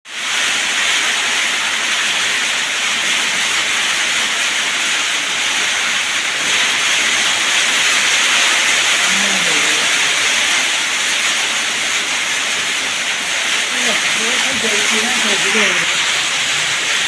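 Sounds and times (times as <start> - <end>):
torrential rain pouring: 0.1 - 17.0.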